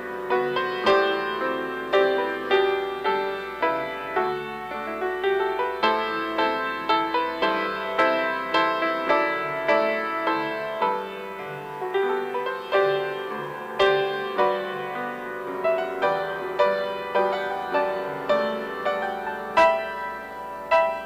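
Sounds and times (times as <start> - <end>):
slow gentle piano piece: 0.0 - 21.0.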